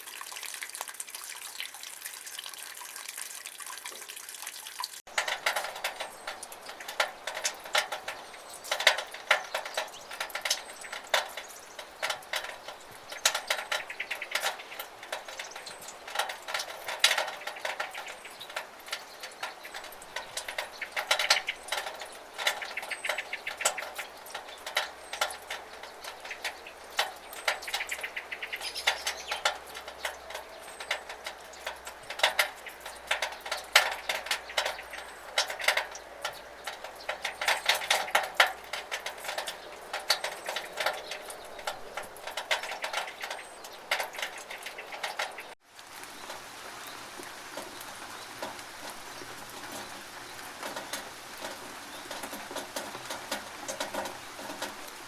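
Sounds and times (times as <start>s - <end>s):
running water hiss: 0.0s - 55.0s
water dripping in gutter: 0.0s - 55.0s.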